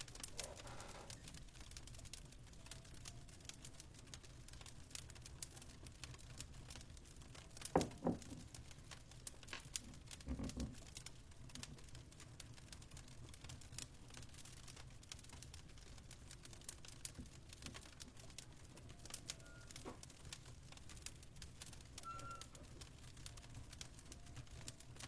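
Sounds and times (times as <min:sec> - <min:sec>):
fireplace crackling: 0:00.0 - 0:25.0.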